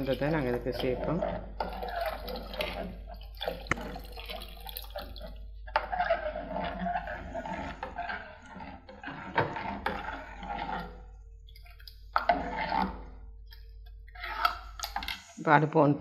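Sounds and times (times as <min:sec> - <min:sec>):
spoon stirring thick porridge: 0:00.0 - 0:15.4.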